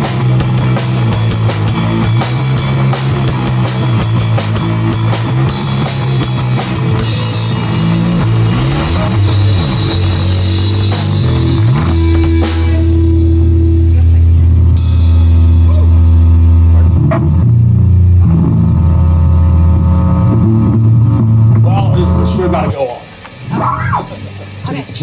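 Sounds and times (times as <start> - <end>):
bass guitar: 0.0 - 24.6
drum kit: 0.0 - 24.6
electric guitar: 0.0 - 24.8.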